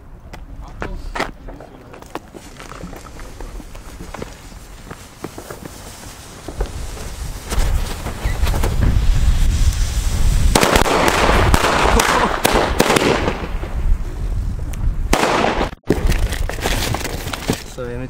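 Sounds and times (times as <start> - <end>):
fireworks hissing and popping: 1.9 - 17.4.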